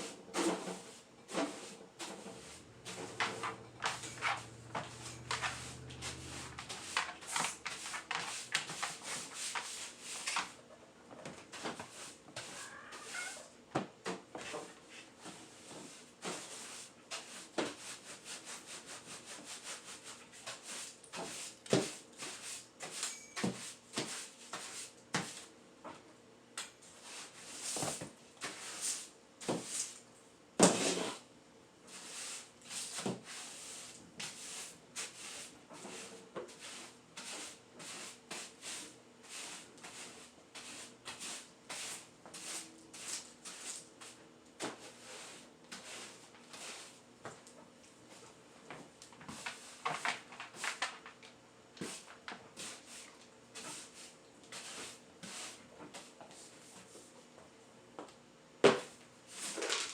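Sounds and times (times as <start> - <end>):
broom sweeping a floor: 0.0 - 10.6, 11.3 - 13.4, 14.1 - 25.6, 26.7 - 51.0, 51.8 - 57.3, 58.8 - 59.9.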